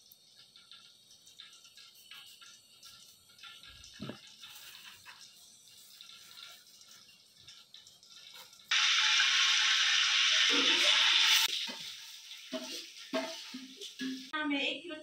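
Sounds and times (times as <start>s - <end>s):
hot oil sizzling: 0.0s - 14.9s.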